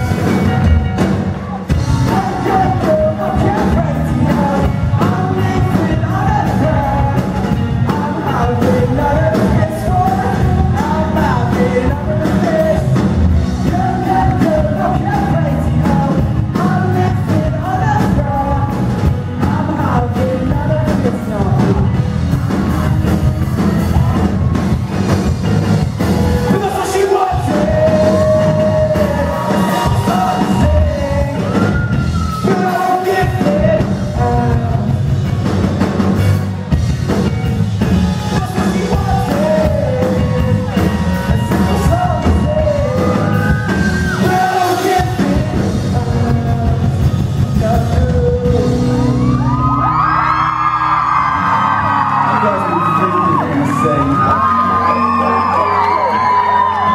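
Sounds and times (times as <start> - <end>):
person singing into microphone: 1.7 - 13.0, 13.6 - 22.0, 26.5 - 35.1, 38.3 - 56.9.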